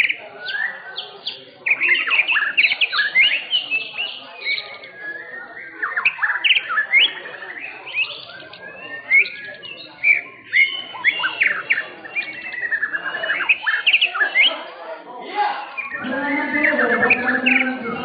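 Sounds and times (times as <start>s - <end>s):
bird singing whistled notes: 0.0s - 14.8s, 15.8s - 18.0s.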